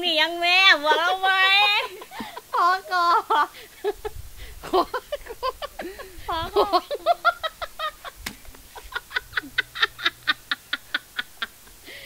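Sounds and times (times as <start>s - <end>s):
people laughing hard: 0.7s - 12.0s.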